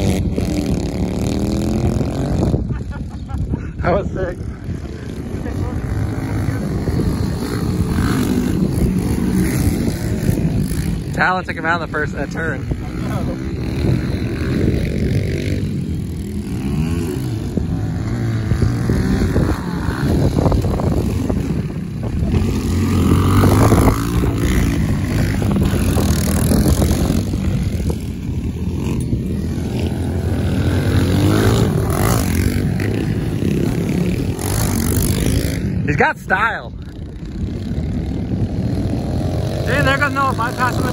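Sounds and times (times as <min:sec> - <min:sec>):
pit bike engines revving: 0:00.0 - 0:40.9.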